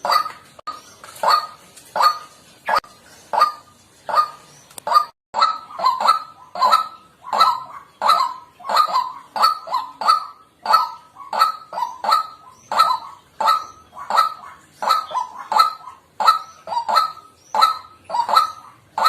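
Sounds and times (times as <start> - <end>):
waterhen calling harsh notes: 0.0 - 19.0.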